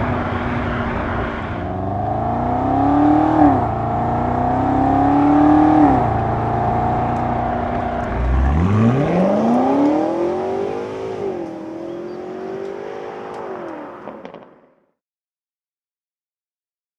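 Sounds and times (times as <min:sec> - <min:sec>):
car engine revving: 0:00.0 - 0:14.5.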